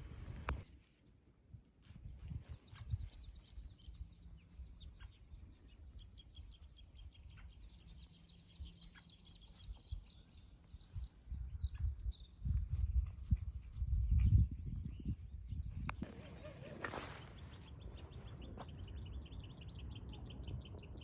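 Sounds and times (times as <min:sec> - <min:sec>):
songbirds singing: 0:02.2 - 0:21.0.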